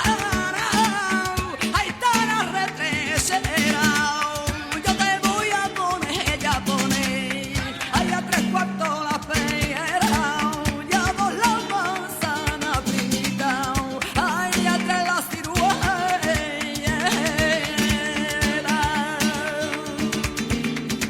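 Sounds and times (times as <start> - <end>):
person singing: 0.0 - 20.6
flamenco guitar strumming: 0.0 - 21.0.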